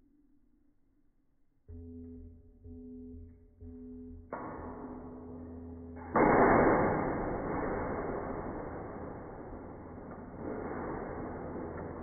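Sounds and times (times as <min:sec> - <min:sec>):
low held tone: 0:01.7 - 0:12.0.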